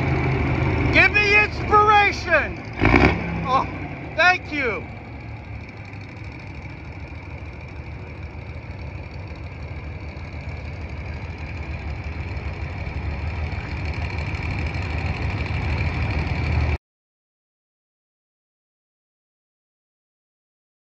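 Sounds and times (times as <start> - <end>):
diesel truck engine rumbling: 0.0 - 16.8.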